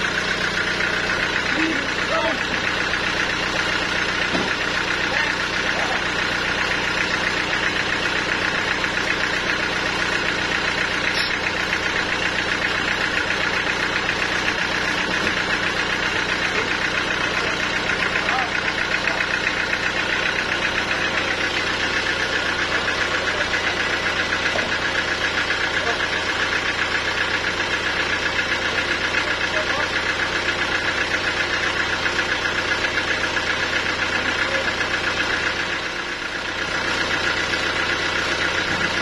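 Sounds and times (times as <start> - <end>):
sawmill machine hum: 0.0 - 39.0.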